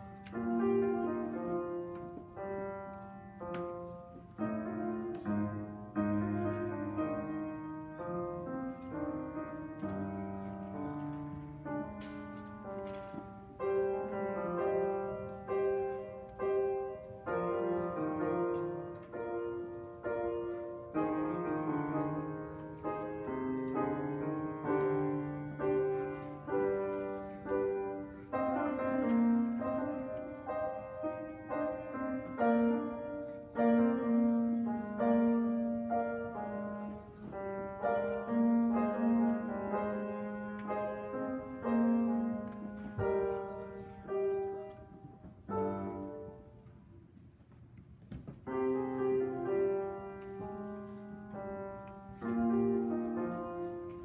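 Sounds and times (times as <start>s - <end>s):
grand piano playing: 0.0s - 54.0s.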